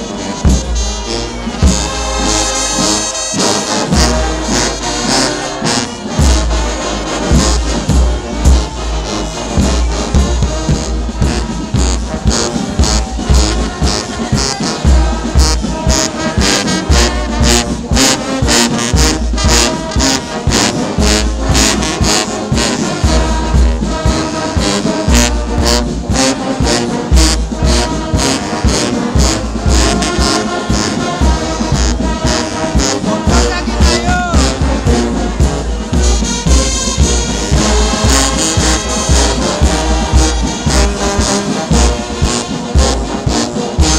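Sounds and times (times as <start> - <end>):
brass band music: 0.0 - 43.9
steady drum beat: 0.0 - 43.9.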